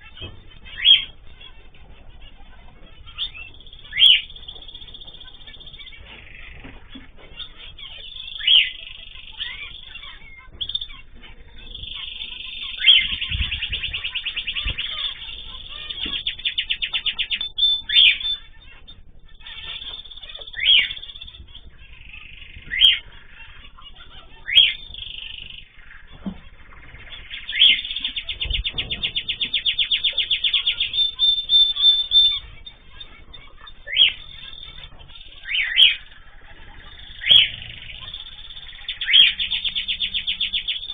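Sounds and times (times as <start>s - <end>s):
bird trills: 0.0s - 40.9s
birds chirping: 0.0s - 40.9s.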